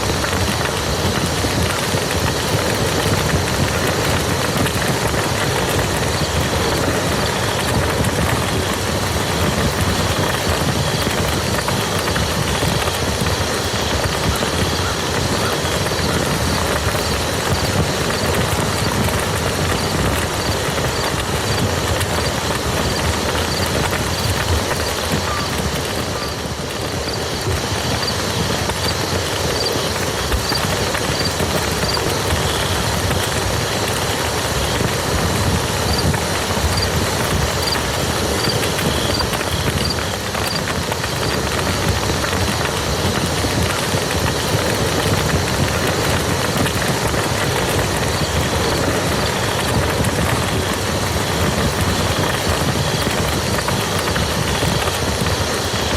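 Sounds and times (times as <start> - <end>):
rain on a muddy field: 0.0 - 55.9.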